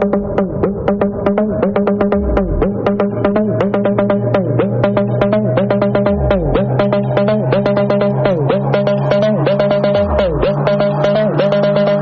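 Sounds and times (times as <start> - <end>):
fast synthesizer notes: 0.0 - 12.0
sustained bass: 0.0 - 12.0.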